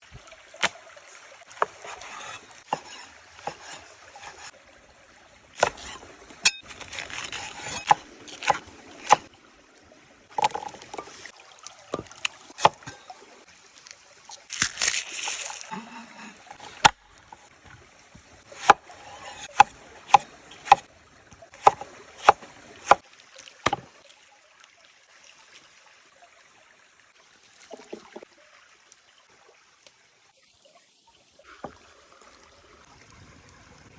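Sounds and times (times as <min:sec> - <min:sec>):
water splashing and sloshing: 0:00.0 - 0:33.9.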